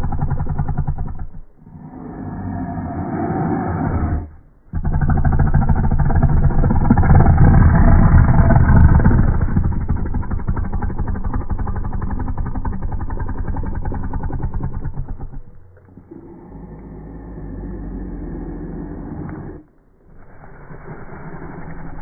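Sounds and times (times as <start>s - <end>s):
snow leopard growling: 0.0s - 22.0s.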